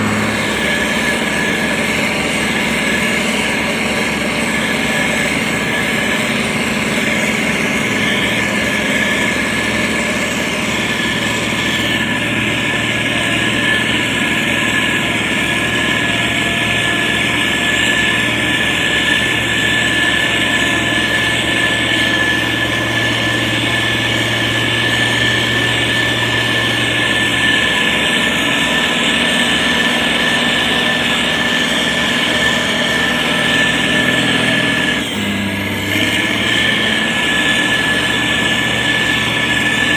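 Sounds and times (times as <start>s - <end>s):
diesel engine running: 0.0s - 39.9s
high-pitched whine: 0.0s - 39.9s.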